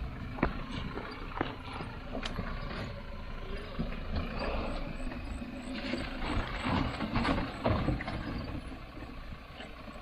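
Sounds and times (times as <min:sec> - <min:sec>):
jeep engine rumbling off-road: 0:00.0 - 0:10.0.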